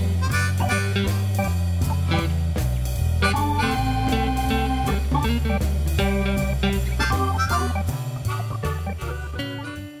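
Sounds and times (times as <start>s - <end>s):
instrumental guitar and bass music: 0.0s - 10.0s.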